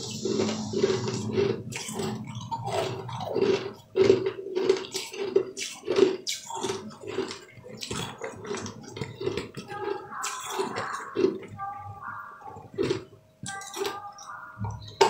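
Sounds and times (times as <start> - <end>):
crunchy candy chewing: 0.0 - 11.5, 12.5 - 14.3.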